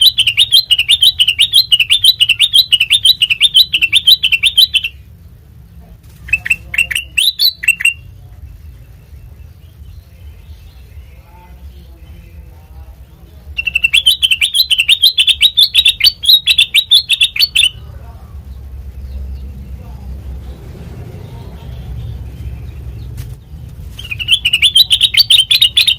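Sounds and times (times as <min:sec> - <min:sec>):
bird singing sharp chirpy notes: 0:00.0 - 0:05.1, 0:06.3 - 0:11.9, 0:13.5 - 0:23.2, 0:24.0 - 0:25.9
low background rumble: 0:00.0 - 0:25.9.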